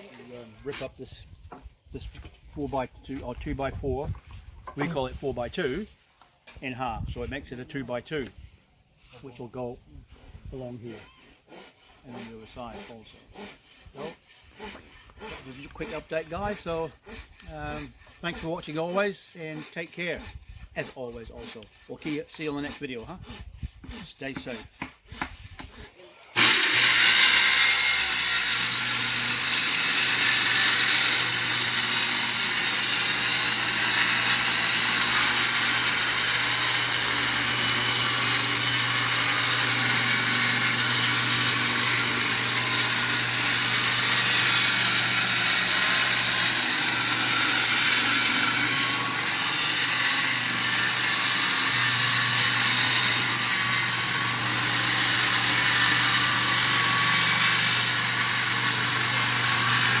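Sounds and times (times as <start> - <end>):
circular saw cutting timber: 0.0 - 60.0.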